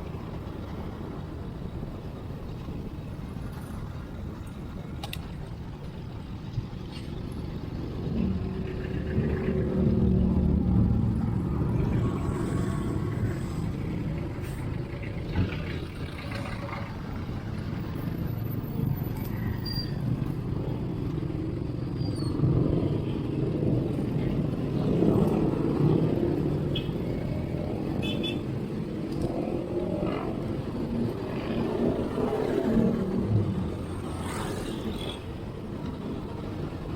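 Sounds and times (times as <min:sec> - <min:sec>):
road traffic rumble: 0:00.0 - 0:36.9.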